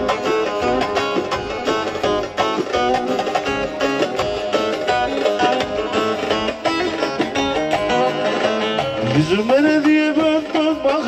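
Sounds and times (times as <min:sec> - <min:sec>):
fast plucked-string melody: 0:00.0 - 0:11.0
regular beat: 0:00.0 - 0:11.0.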